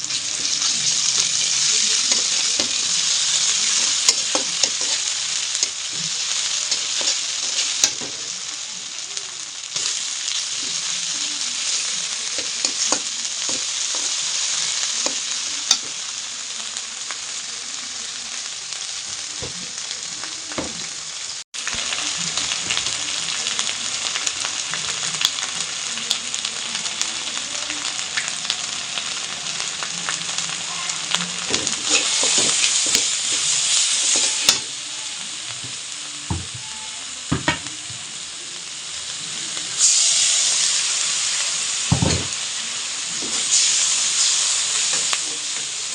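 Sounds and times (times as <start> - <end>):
food sizzling in hot oil: 0.0 - 45.9.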